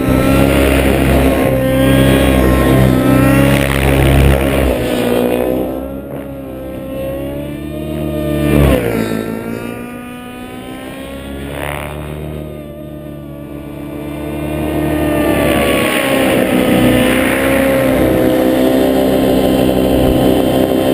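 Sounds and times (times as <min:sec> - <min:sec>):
model helicopter whining: 0:00.0 - 0:20.9.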